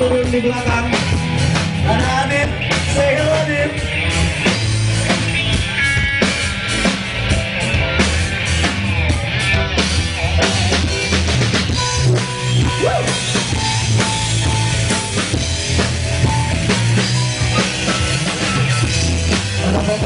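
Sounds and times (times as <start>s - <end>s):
bass guitar: 0.0s - 20.0s
guitar playing: 0.0s - 20.0s
rock drum kit playing: 0.0s - 20.0s.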